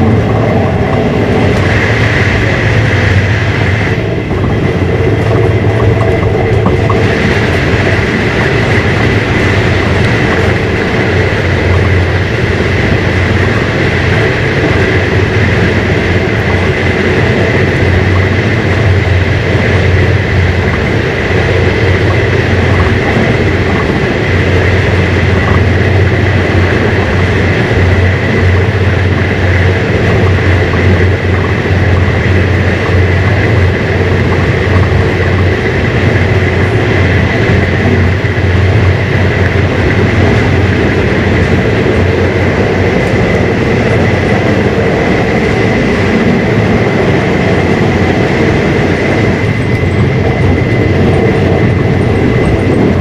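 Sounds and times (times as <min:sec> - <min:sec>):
thin steady whine: 0:00.0 - 0:53.0
train carriage rumble: 0:00.0 - 0:53.0.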